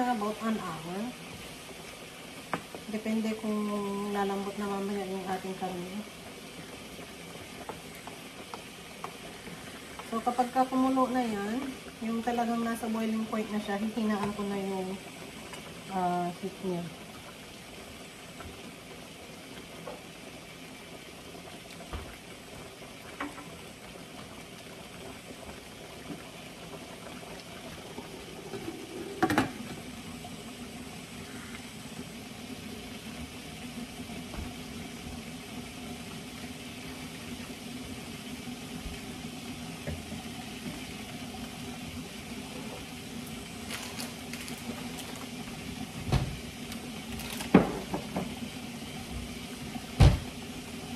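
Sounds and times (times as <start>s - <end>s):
stew bubbling in a pan: 0.0s - 50.9s.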